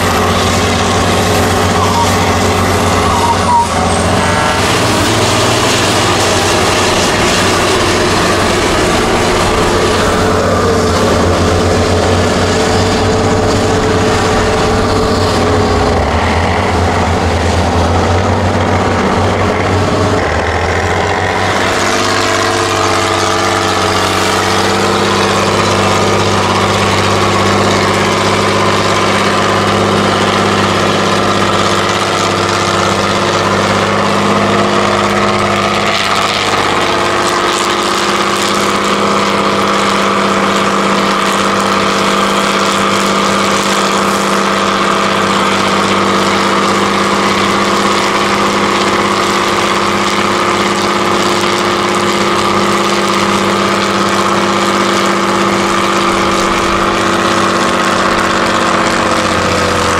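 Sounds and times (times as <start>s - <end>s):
heavy diesel truck engines: 0.0s - 59.9s.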